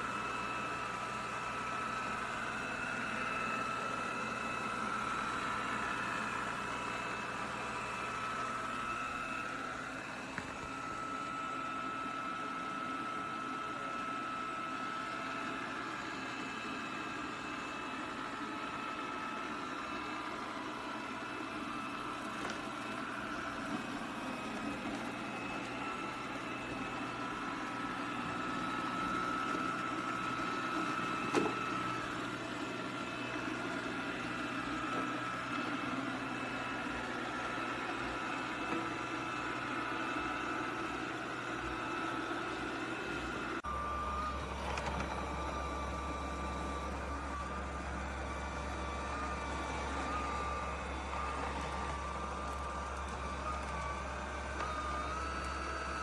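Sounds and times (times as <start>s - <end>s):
robot vacuum motor whining: 0.0s - 56.0s.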